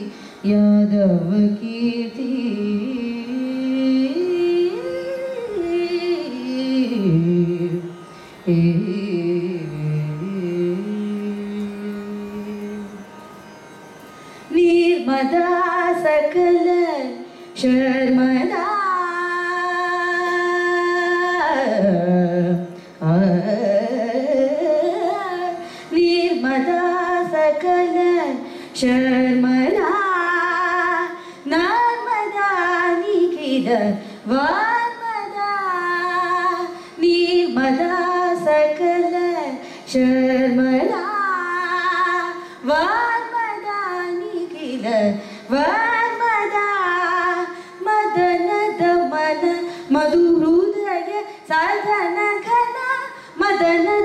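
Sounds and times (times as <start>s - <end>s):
woman singing: 0.0s - 13.0s, 14.5s - 54.0s.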